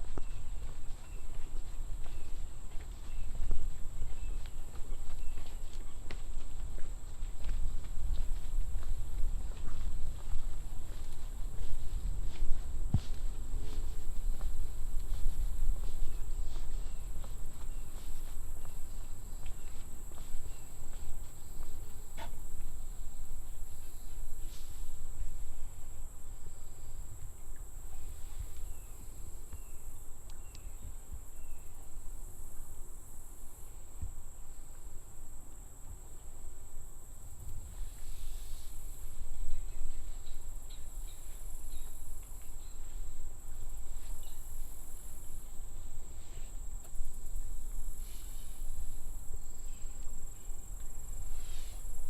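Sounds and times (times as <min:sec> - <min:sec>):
footsteps on a trail: 0:00.0 - 0:32.0, 0:33.8 - 0:52.0
insects droning: 0:00.0 - 0:52.0.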